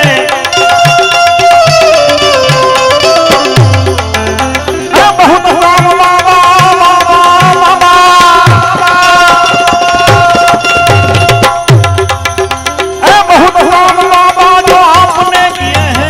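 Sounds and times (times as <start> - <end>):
tabla strokes: 0.0 - 16.0.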